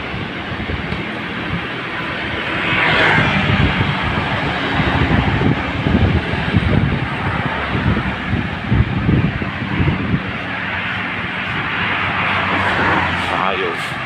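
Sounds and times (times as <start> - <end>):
road and traffic noise: 0.0 - 14.0
wind buffeting microphone: 0.0 - 14.0.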